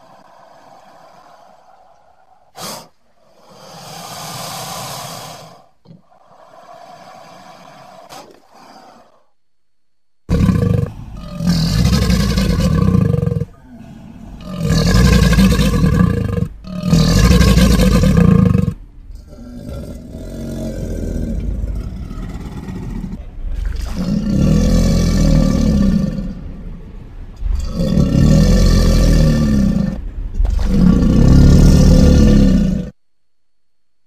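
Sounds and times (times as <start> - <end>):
crocodilian deep rumbling calls: 0.0 - 9.4, 10.3 - 33.0.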